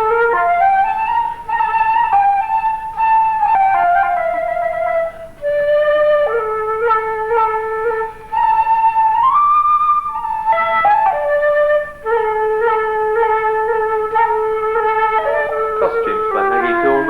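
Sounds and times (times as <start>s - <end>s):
solo flute-like woodwind melody: 0.0s - 17.0s.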